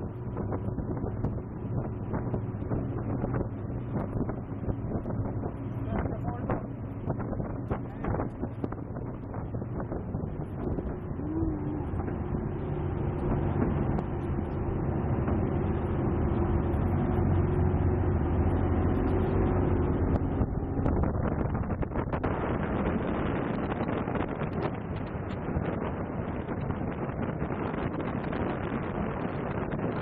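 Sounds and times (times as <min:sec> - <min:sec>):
boat engine drone: 0:00.0 - 0:30.0
wind buffeting microphone: 0:00.0 - 0:30.0.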